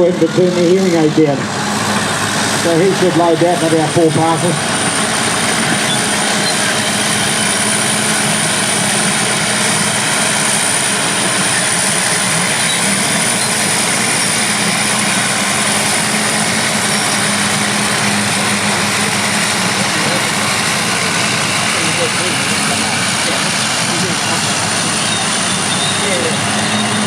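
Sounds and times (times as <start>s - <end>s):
diesel earthmoving machinery running: 0.0s - 27.0s.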